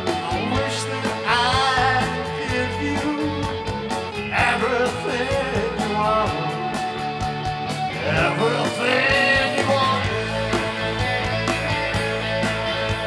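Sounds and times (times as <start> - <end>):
drum kit with hi-hat beat: 0.0 - 13.0
electric bass: 0.0 - 13.0
electric guitar: 0.0 - 13.0.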